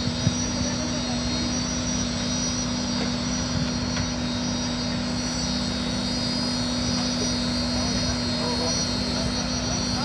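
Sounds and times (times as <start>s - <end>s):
concrete pump engine drone: 0.0s - 10.0s.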